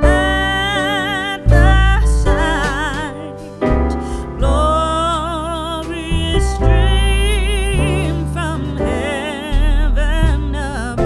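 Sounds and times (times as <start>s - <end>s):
background music with held notes: 0.0s - 11.0s
deep bass notes: 0.0s - 11.0s.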